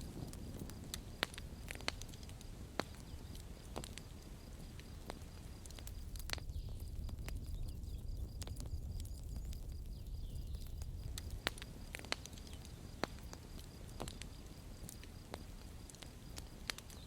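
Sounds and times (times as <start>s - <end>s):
campfire crackling and popping: 0.0s - 17.0s
low rumble of burning: 0.0s - 17.0s.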